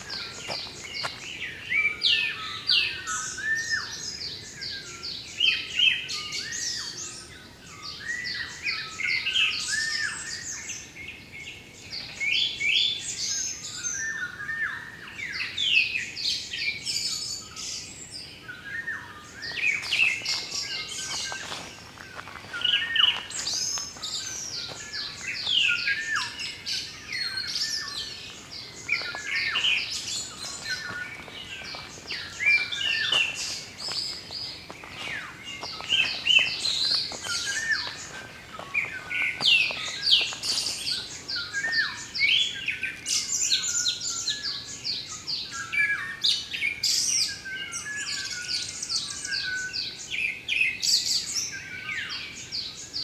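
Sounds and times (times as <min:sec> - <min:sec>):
birds chirping and trilling: 0:00.0 - 0:15.9, 0:16.7 - 0:53.0.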